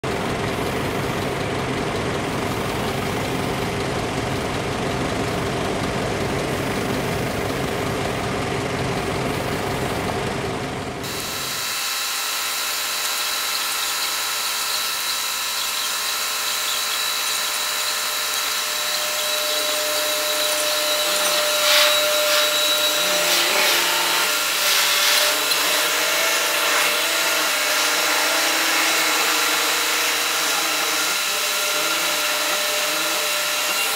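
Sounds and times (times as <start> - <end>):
sped-up ferry machinery whine: 0.0 - 33.9.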